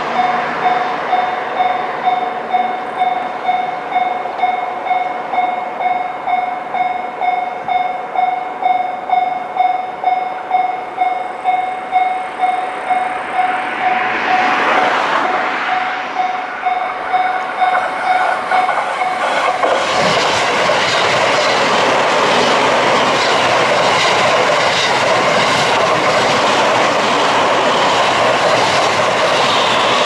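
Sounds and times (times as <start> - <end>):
level-crossing alarm dinging: 0.0 - 30.0
train approaching: 0.0 - 30.0.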